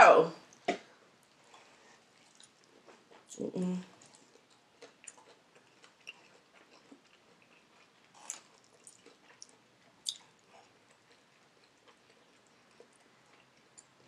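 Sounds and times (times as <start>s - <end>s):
person chewing chicken: 1.3s - 3.3s, 3.9s - 14.0s.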